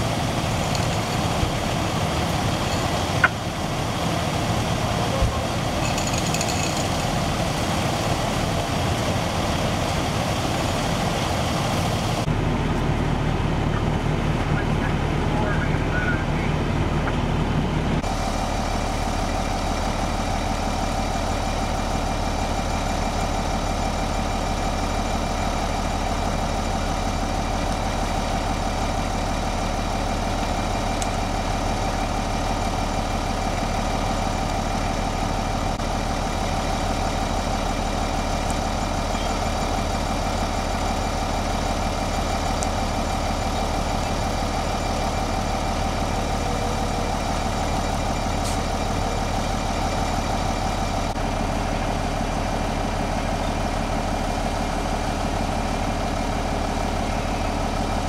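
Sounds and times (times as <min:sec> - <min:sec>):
large vehicle engine idling: 0:00.0 - 0:58.0.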